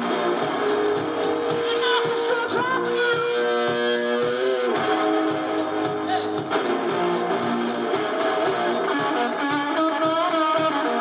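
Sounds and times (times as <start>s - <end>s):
drum hits: 0.0s - 10.8s
electric guitar long notes: 0.0s - 11.0s.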